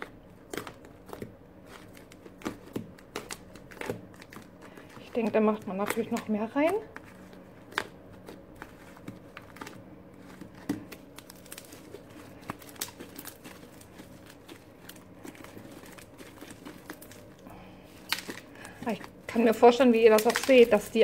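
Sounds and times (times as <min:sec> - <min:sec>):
slime crackling when kneaded: 0:00.0 - 0:21.0.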